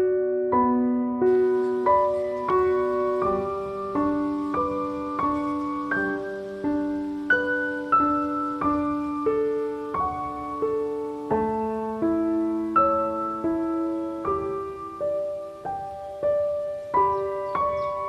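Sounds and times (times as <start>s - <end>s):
slow soft piano music: 0.0s - 18.0s.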